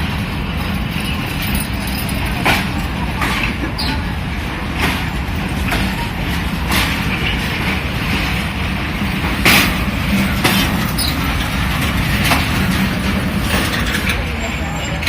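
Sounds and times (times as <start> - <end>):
train rumbling: 0.0 - 15.0
wheels clacking over rail joints: 0.0 - 15.0.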